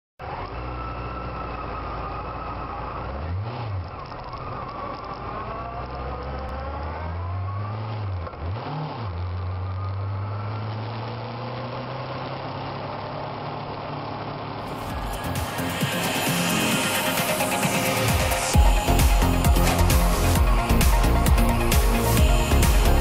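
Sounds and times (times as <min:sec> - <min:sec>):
motorcycle engine revving: 0:00.2 - 0:23.0
wind and road noise: 0:00.2 - 0:23.0.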